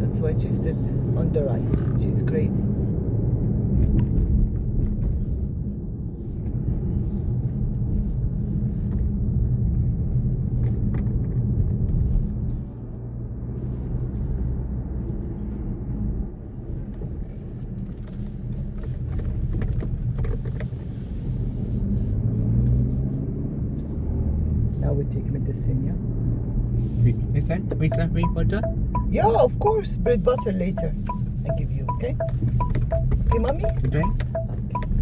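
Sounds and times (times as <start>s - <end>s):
car engine rumble inside cabin: 0.0s - 35.0s.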